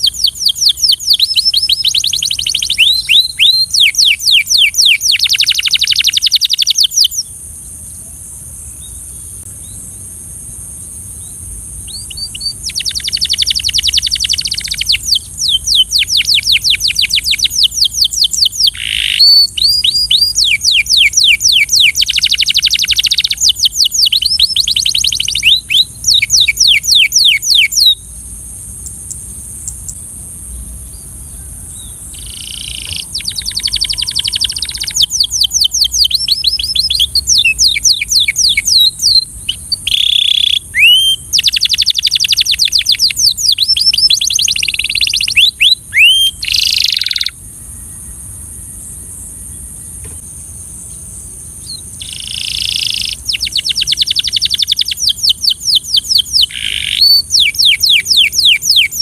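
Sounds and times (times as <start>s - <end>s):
canary singing fast trills: 0.0s - 7.4s, 11.2s - 47.4s, 50.8s - 59.0s
steady high hiss: 0.0s - 59.0s.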